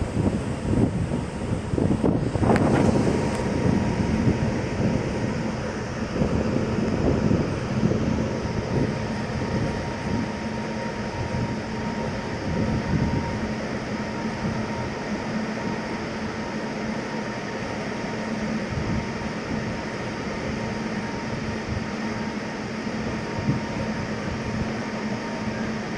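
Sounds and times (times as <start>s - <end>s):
train wheels rumbling on track: 0.0s - 25.9s.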